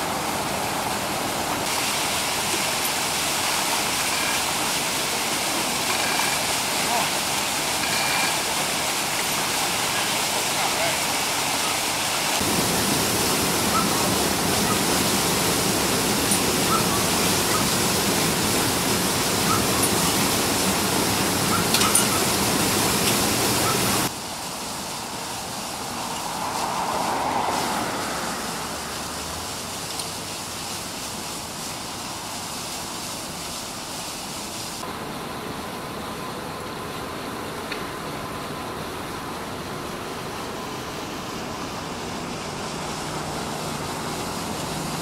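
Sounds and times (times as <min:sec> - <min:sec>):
steady background noise: 0:00.0 - 0:45.0
water gushing from hydrant: 0:00.0 - 0:45.0.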